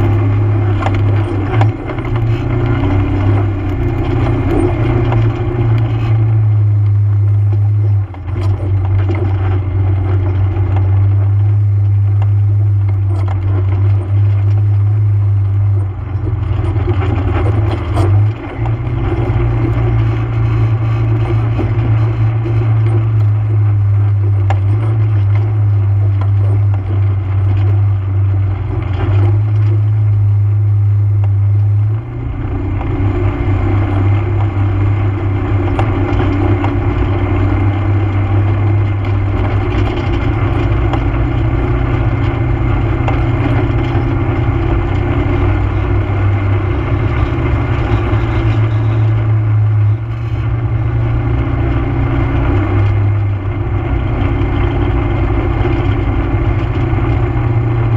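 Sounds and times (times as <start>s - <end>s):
atv engine droning: 0.0s - 57.9s
tyres on dirt and gravel: 0.0s - 57.9s.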